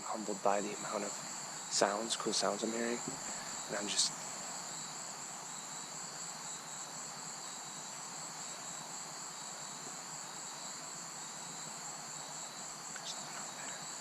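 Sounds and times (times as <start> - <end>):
insects buzzing trills: 0.0 - 14.0.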